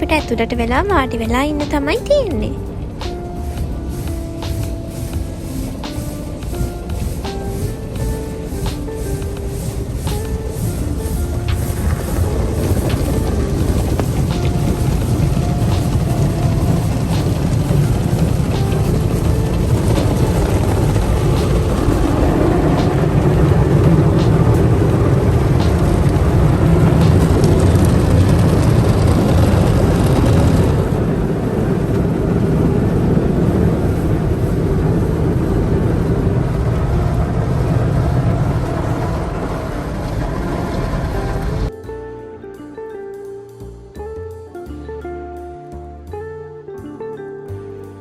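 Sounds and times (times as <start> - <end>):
deep rumble: 0.0 - 41.8
car wash machine rushing: 2.3 - 41.7.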